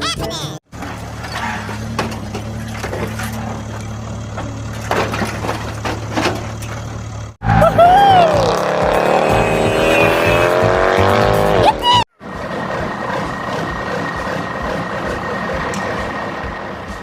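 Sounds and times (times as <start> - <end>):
engine revving: 0.7 - 17.0
low engine hum: 0.7 - 17.0.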